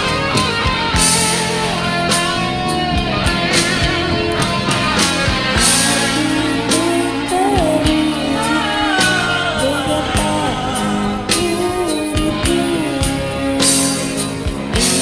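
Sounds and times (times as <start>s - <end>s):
karaoke backing track: 0.0s - 15.0s
person singing pop melody: 0.7s - 15.0s.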